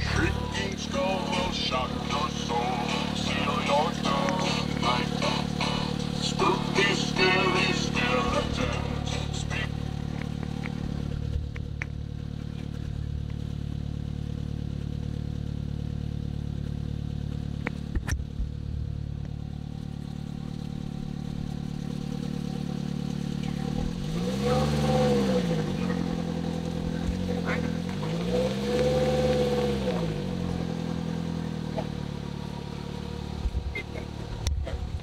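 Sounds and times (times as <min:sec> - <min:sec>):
car engine running and revving: 0:00.0 - 0:35.0.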